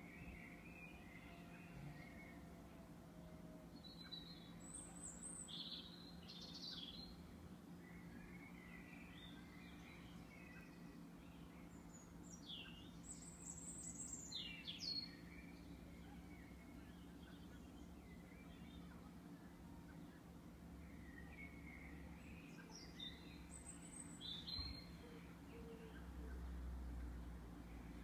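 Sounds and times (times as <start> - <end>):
steady low hum: 0.0 - 28.0
bird calls and chirps: 3.7 - 26.6.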